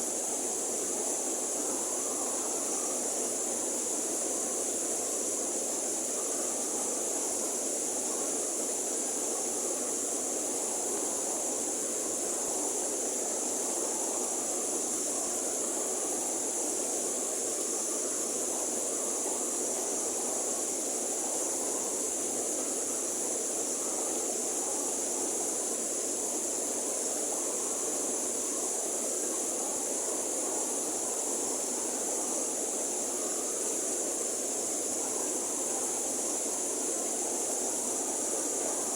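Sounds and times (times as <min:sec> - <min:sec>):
high-pitched hiss: 0:00.0 - 0:38.9.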